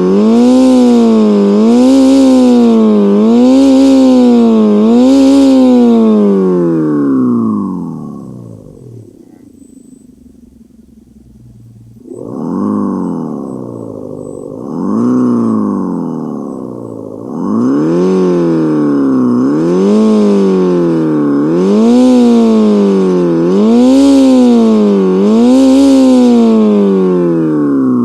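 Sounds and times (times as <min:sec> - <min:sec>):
simulated engine revving: 0:00.0 - 0:28.0.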